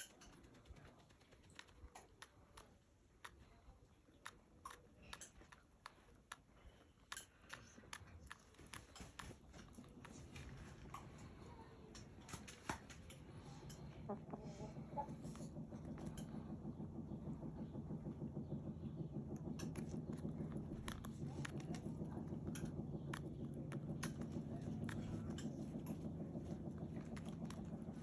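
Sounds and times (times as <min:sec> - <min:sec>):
hens' beaks pecking: 0:00.0 - 0:28.0.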